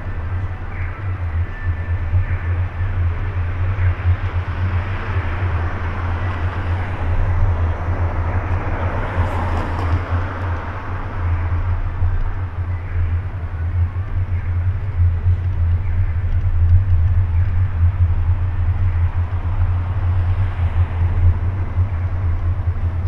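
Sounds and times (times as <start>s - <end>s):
cars passing: 0.0s - 23.0s
low traffic rumble: 0.0s - 23.0s.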